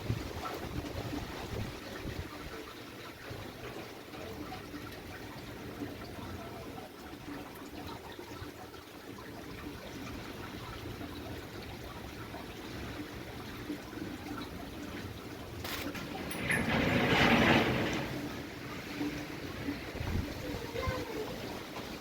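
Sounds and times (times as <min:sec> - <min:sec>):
rain: 0:00.0 - 0:22.0
wind: 0:00.0 - 0:22.0.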